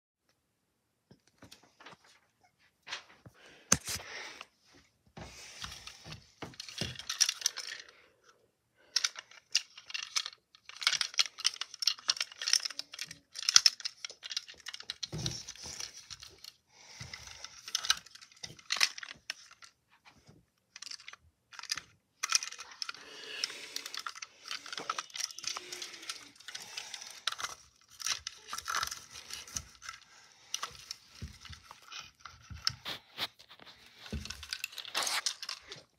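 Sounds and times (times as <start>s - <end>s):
hard toys clattering: 5.2s - 8.0s, 8.9s - 35.9s.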